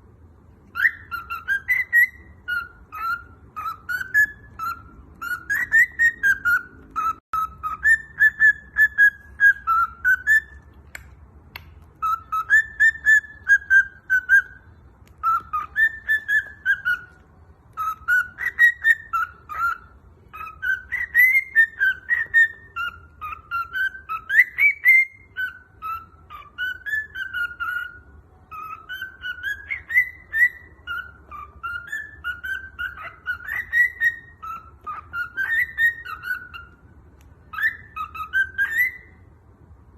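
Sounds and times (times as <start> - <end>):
cockatiel whistling: 0.5 - 39.3.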